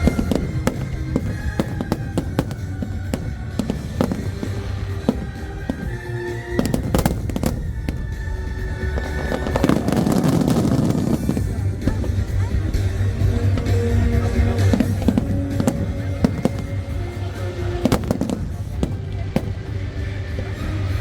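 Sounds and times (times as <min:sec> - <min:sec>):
fireworks bursting: 0:00.0 - 0:21.0
music playing: 0:00.0 - 0:21.0
small fireworks crackling: 0:00.0 - 0:21.0.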